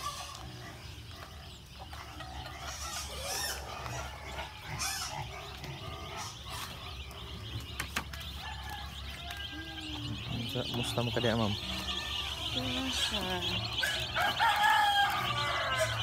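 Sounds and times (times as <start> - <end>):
pigs squealing: 0.0 - 7.7, 8.7 - 16.0
chickens calling: 0.0 - 16.0.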